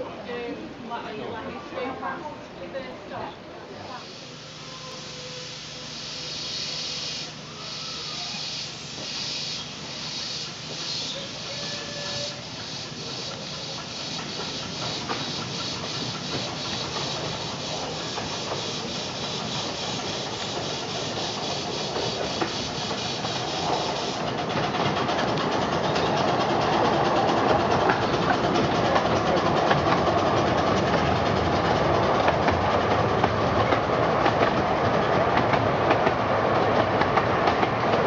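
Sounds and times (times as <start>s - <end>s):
steam locomotive chuffing: 3.9s - 38.0s.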